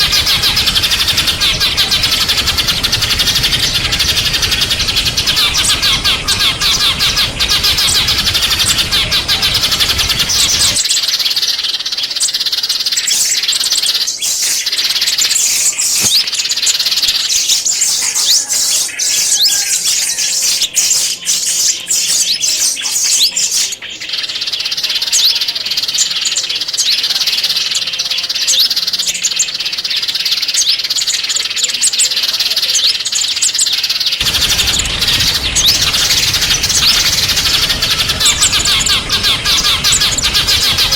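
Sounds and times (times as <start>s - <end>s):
low background noise: 0.0s - 40.9s
small songbirds chirping: 0.0s - 40.9s.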